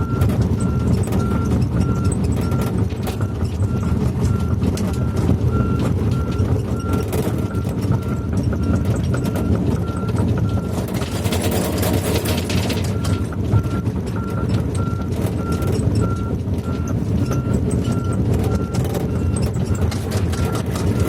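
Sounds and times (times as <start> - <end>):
clattering grinding noise: 0.0 - 21.0
diesel excavator engine running: 0.0 - 21.0.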